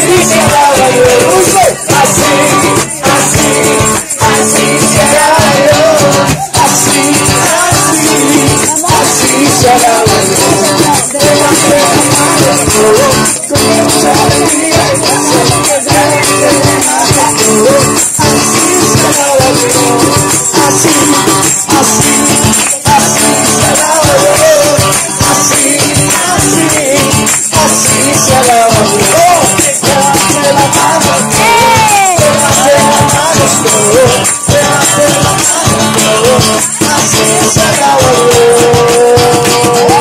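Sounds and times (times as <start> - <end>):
live worship music: 0.0 - 40.0
voices singing: 0.0 - 40.0.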